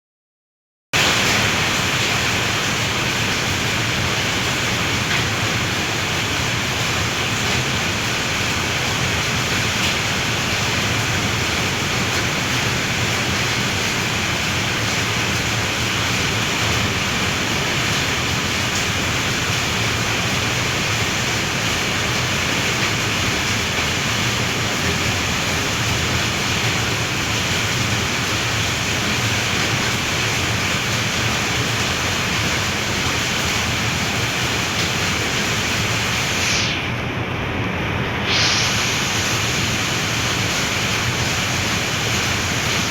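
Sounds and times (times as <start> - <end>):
heavy rain pouring: 1.0 - 42.9.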